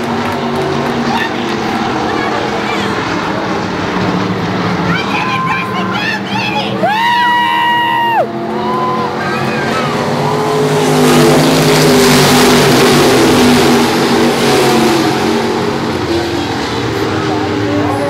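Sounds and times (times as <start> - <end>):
stock cars racing past: 0.0 - 18.0.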